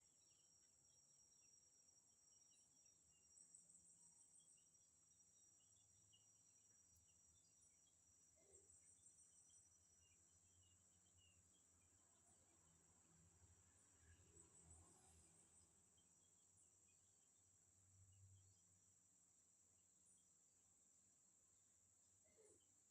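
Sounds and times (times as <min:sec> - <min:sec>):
crickets droning: 0:00.0 - 0:21.2.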